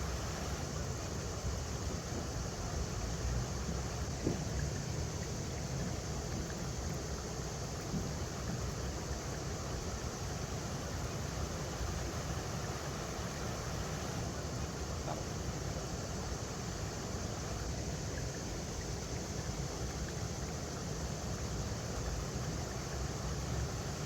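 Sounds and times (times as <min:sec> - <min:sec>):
river water over rocks: 0:00.0 - 0:24.0.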